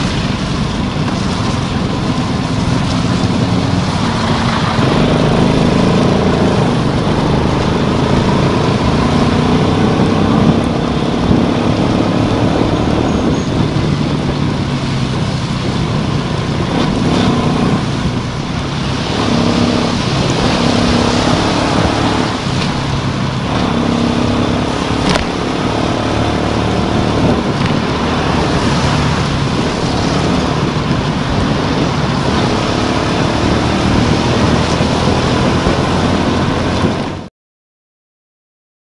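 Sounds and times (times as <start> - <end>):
tyres spraying water: 0.0 - 36.9
motorcycle engine running: 0.0 - 37.2.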